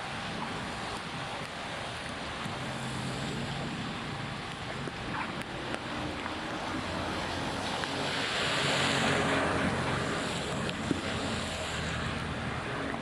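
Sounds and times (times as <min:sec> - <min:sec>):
heavy rain: 0:00.0 - 0:12.9
rushing floodwater: 0:00.0 - 0:13.0.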